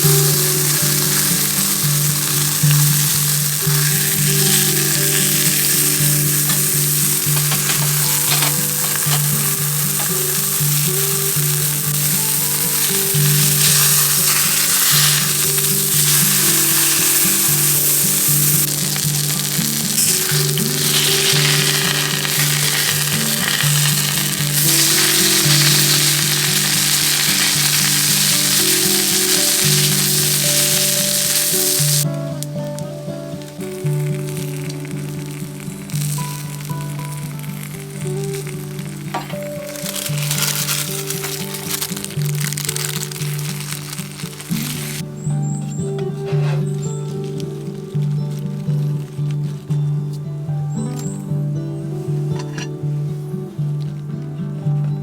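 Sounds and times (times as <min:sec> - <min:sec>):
patty sizzling in a pan: 0:00.0 - 0:45.1.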